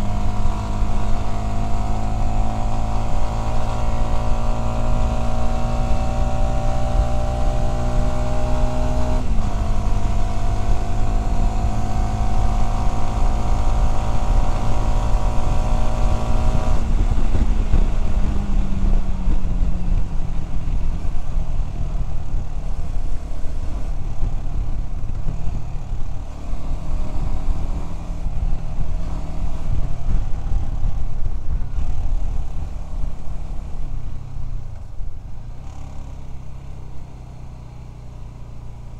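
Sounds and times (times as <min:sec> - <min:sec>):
motorcycle engine accelerating: 0:00.0 - 0:38.9
wind and road rush: 0:00.0 - 0:38.9.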